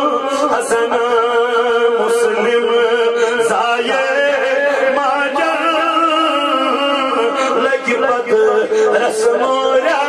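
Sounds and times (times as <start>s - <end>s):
man chanting through a microphone: 0.0s - 10.0s.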